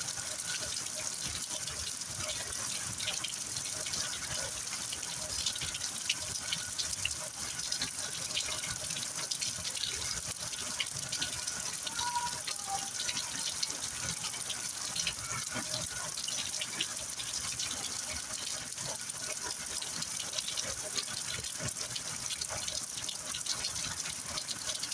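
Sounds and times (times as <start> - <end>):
raindrop splashes ticking: 0.1 - 24.9.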